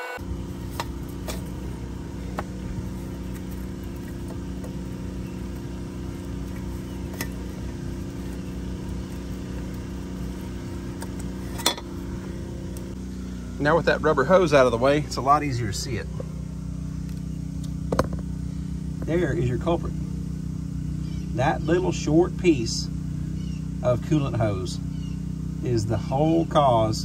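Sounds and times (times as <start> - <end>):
machinery engine drone: 0.0 - 27.0.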